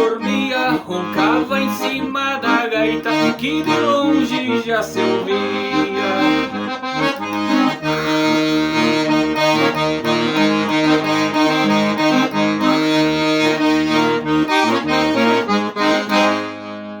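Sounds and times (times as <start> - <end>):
accordion playing chords and melody: 0.0 - 17.0.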